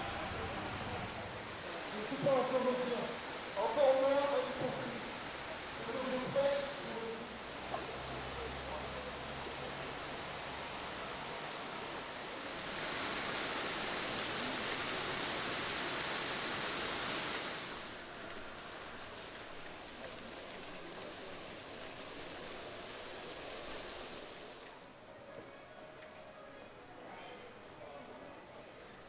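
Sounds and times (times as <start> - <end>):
fountain jets splashing on paving: 0.0 - 29.0.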